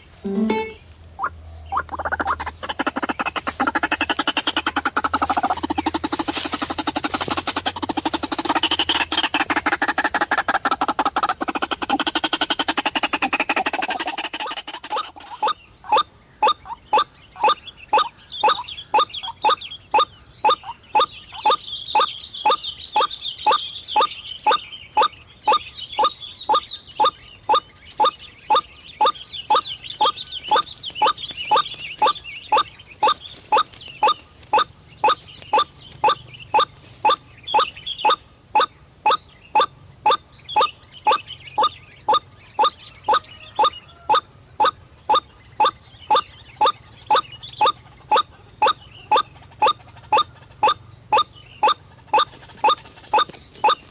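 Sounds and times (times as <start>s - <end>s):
waterhen calling: 0.0s - 53.9s.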